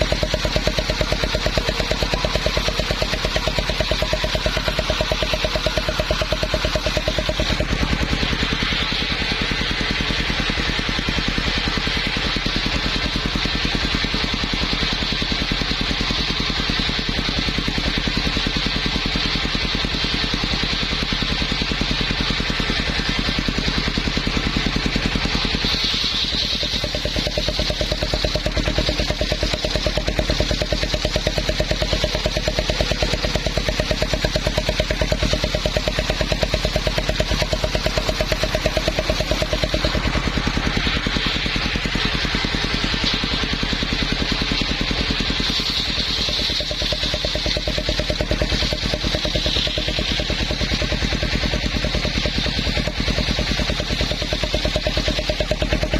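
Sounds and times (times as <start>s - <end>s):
engine-driven circular saw running: 0.0s - 55.9s.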